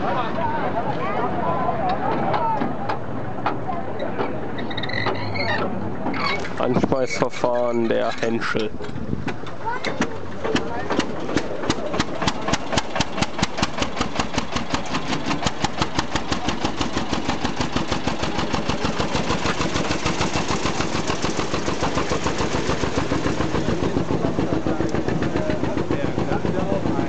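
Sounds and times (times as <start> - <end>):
locomotive engine idling: 0.0 - 27.0.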